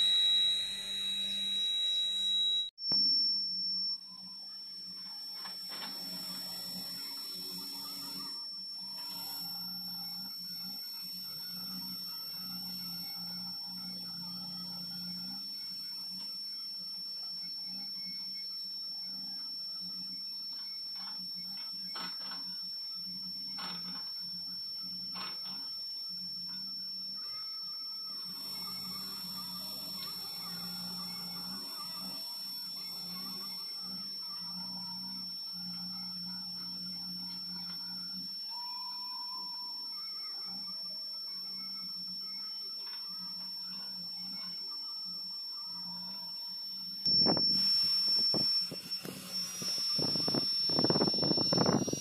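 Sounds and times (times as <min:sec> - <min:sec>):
high-pitched whine: 0:00.0 - 0:52.0.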